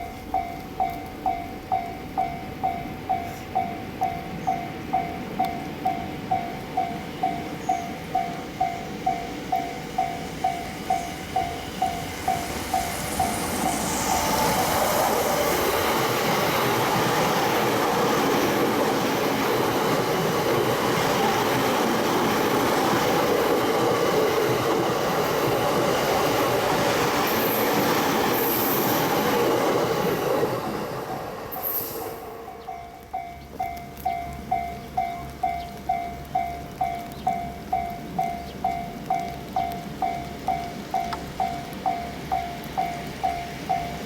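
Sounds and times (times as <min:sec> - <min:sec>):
crossing warning bell: 0:00.0 - 0:29.4, 0:31.5 - 0:44.0
train rumble and wheel noise: 0:00.0 - 0:44.0.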